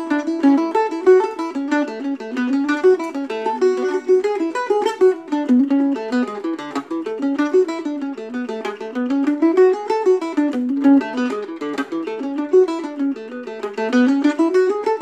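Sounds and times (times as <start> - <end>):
flatpicked mandolin reel: 0.0 - 15.0.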